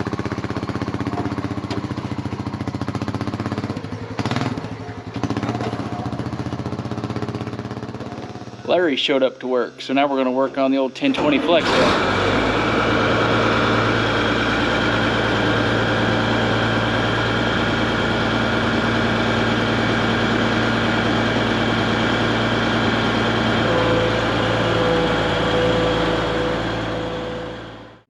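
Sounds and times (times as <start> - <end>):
engine idling hum: 0.0 - 28.0.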